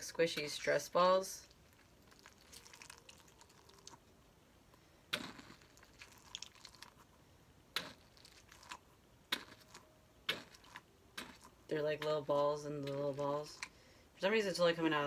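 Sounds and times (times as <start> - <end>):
stress ball squishing: 0.0 - 13.9.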